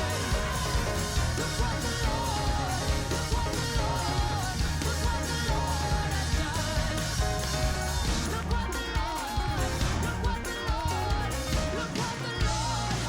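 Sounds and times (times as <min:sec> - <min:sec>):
band playing a song: 0:00.0 - 0:13.0
person singing: 0:00.0 - 0:13.0.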